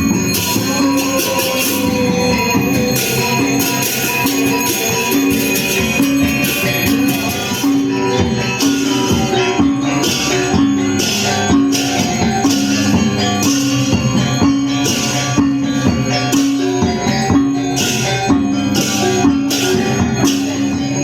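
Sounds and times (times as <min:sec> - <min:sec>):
bright percussion crashes: 0:00.0 - 0:21.0
held pitched melody notes: 0:00.0 - 0:21.0.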